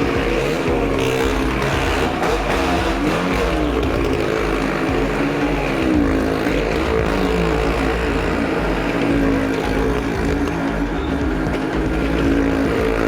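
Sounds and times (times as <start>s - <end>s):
motorcycle and car engines circling: 0.0s - 13.0s.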